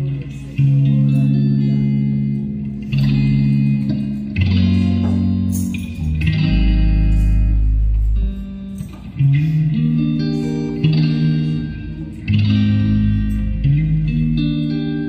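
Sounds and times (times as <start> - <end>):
electric guitars playing chords: 0.0 - 15.0.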